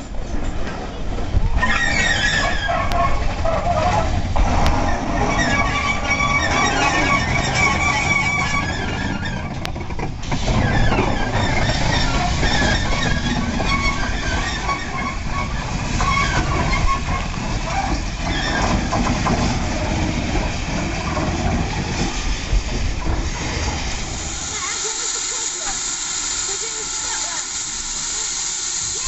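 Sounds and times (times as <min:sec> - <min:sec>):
steam locomotive running slowly: 0:00.0 - 0:29.0.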